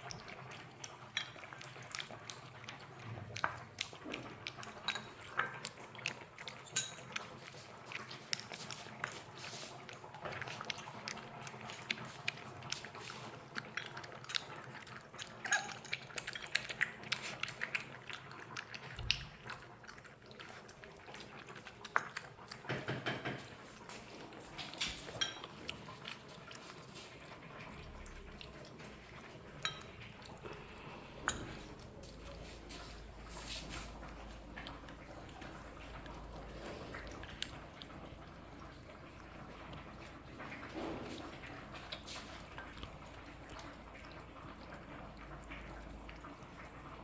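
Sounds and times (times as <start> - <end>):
puppies lapping milk: 0.0 - 47.0.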